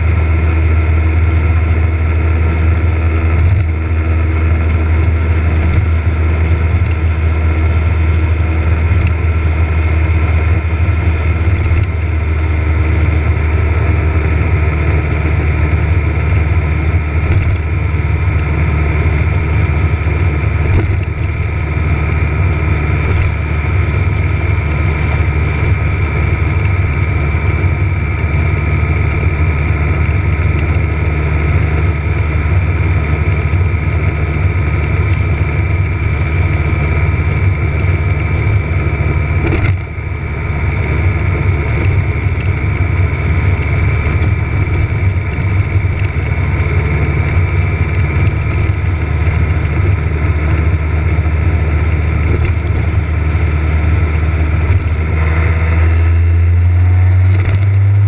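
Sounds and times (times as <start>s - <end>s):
high whine: 0.0s - 58.0s
motorcycle engine running: 0.0s - 58.0s.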